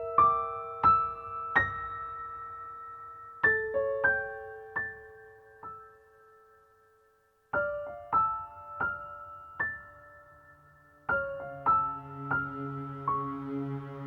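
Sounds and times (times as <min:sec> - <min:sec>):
gentle ambient piano: 0:00.0 - 0:14.0.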